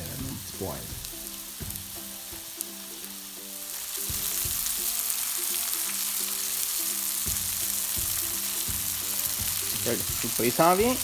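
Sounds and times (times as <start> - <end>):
patties sizzling on a griddle: 0.0 - 11.0.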